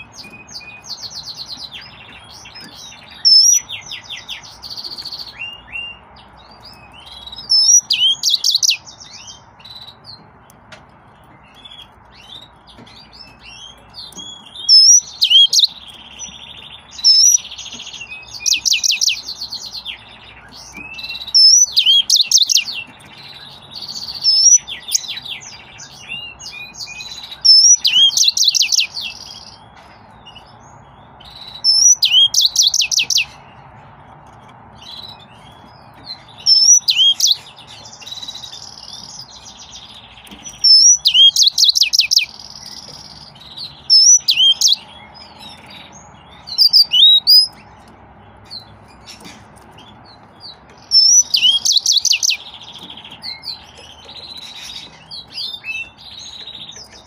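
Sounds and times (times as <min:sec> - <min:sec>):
canary trills and whistles: 0:00.0 - 0:10.2, 0:11.4 - 0:29.7, 0:30.4 - 0:33.4, 0:34.8 - 0:47.7, 0:50.8 - 0:57.0
soft bird twittering: 0:00.0 - 0:57.0.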